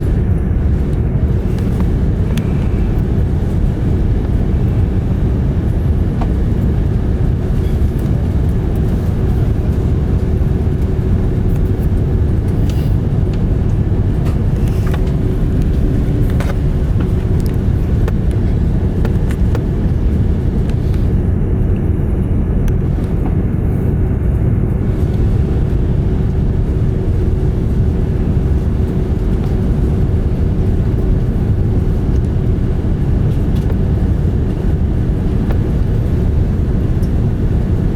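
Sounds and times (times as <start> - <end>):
airliner cabin engine rumble: 0.0 - 37.9
steady hum: 0.0 - 37.9.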